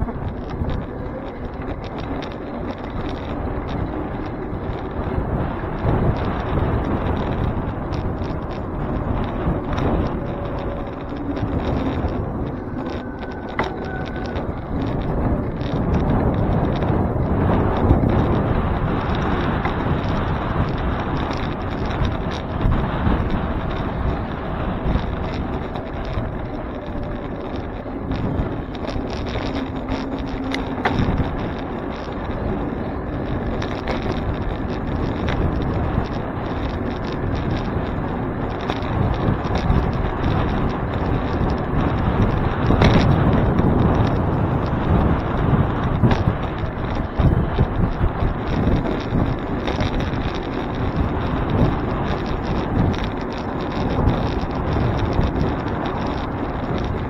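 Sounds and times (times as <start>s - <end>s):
bike clicks and rattles: 0.0s - 57.0s
road noise: 0.0s - 57.0s
wind buffeting microphone: 0.0s - 57.0s.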